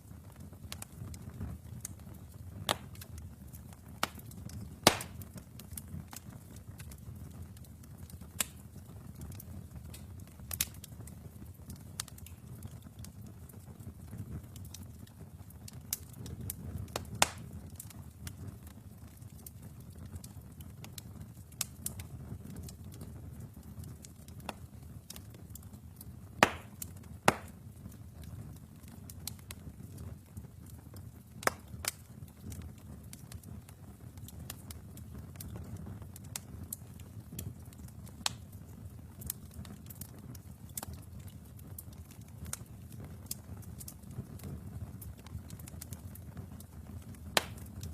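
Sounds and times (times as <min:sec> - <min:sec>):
fire crackles and pops: 0:00.0 - 0:47.9
low rumble of flames: 0:00.0 - 0:47.9.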